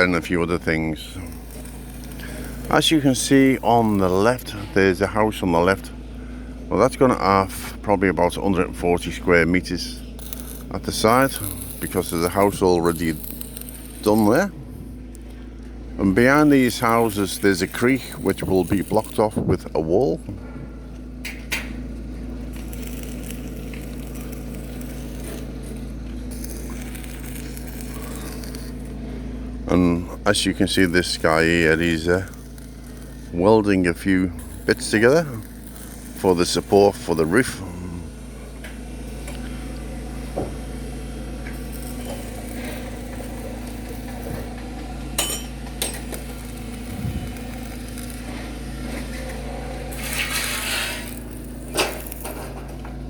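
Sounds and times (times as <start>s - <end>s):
welding arc crackling: 0.0s - 6.0s, 6.8s - 20.3s, 21.0s - 53.0s
welding machine hum: 0.0s - 53.0s.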